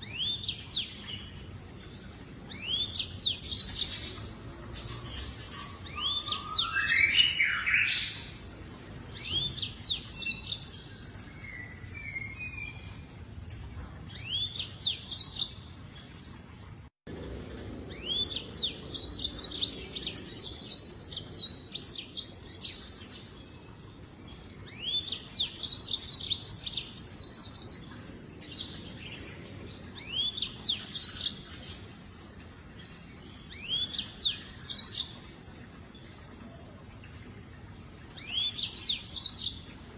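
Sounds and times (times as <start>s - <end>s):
canary singing chirps and trills: 0.0s - 16.5s, 17.2s - 39.9s.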